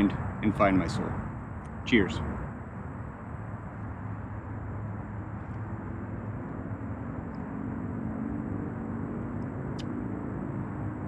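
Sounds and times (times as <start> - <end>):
distant highway traffic drone: 0.0 - 11.0.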